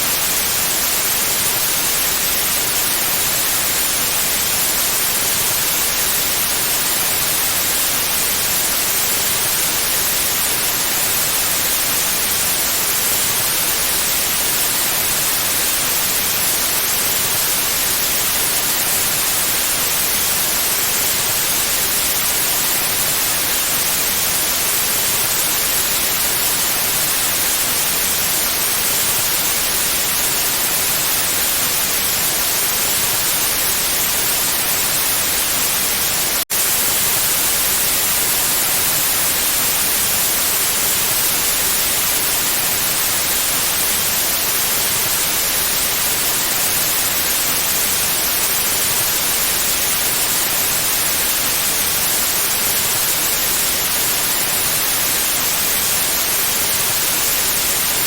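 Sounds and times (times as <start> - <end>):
white-noise hiss: 0.0 - 58.0.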